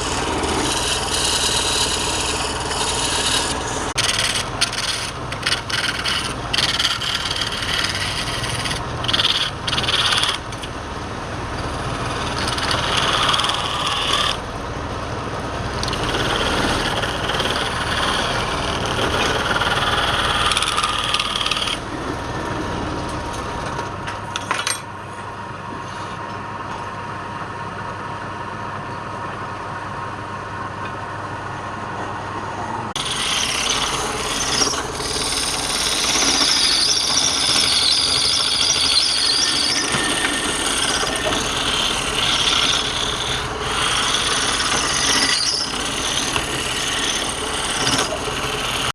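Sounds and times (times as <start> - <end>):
lathe motor hum: 0.0 - 24.5, 27.0 - 48.9
tool scraping spinning wood: 0.0 - 26.2, 32.9 - 48.9.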